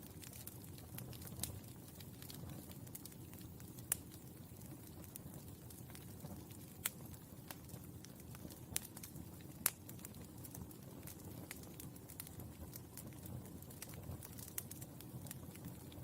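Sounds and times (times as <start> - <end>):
charcoal crackling and popping: 0.0 - 16.0.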